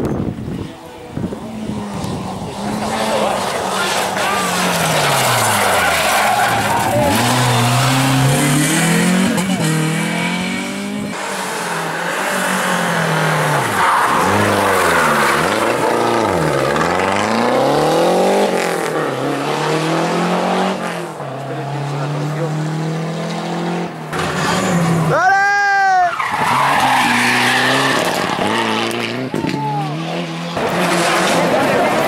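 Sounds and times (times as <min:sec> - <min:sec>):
rally car engine revving: 0:00.1 - 0:25.2, 0:26.1 - 0:32.0.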